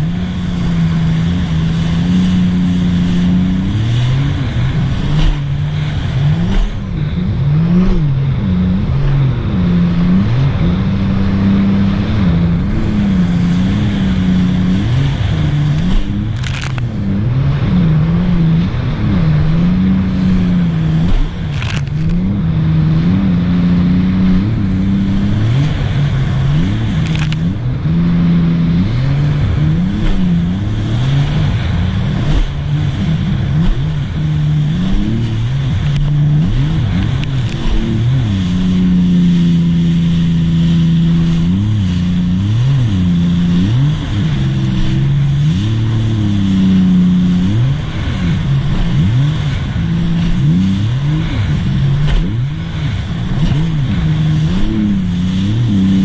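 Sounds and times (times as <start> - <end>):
personal watercraft engine running: 0.0 - 56.0.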